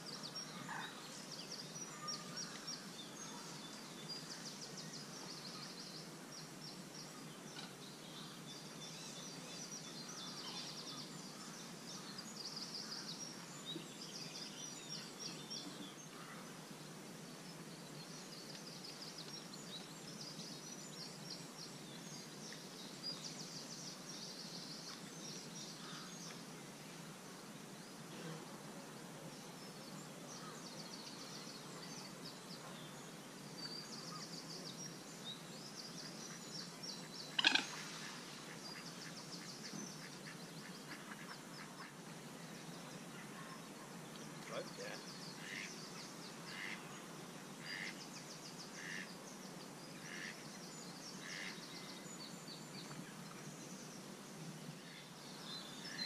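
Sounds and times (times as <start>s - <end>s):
outdoor background hush: 0.0s - 56.0s
small birds chirping and trilling: 0.0s - 56.0s.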